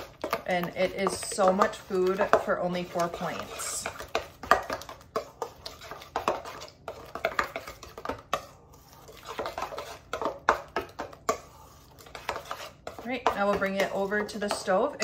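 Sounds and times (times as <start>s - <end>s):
utensil scraping metal bowl: 0.0s - 15.0s.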